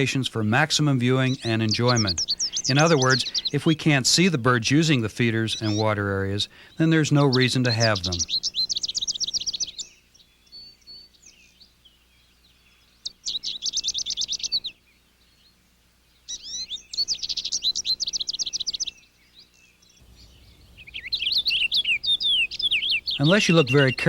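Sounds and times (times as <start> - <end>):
songbirds trilling and chirping: 0.0 - 24.0.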